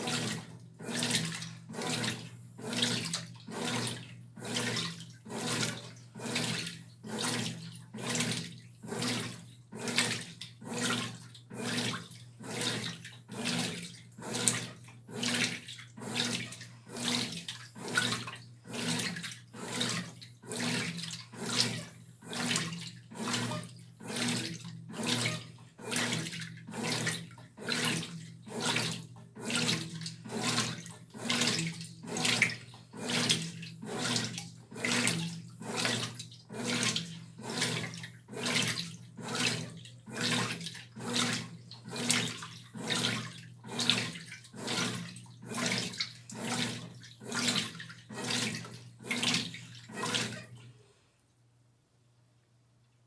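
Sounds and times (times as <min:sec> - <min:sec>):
washing machine sloshing water: 0:00.0 - 0:50.7.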